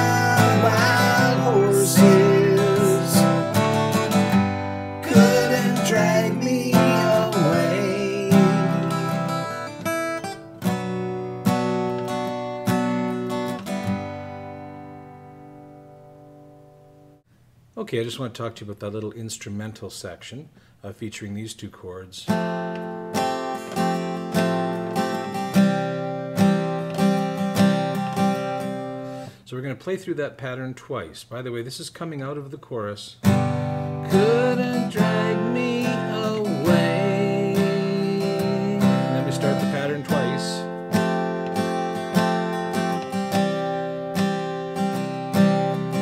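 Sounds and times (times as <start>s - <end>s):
acoustic guitar strumming chords: 0.0s - 17.1s, 22.3s - 29.4s, 33.2s - 46.0s.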